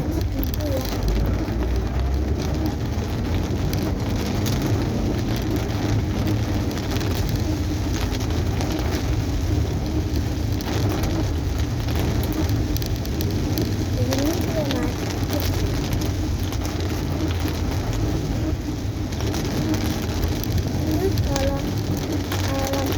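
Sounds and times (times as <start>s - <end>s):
engine and tyres rumbling: 0.0s - 22.9s
rain pattering on car roof: 0.0s - 22.9s.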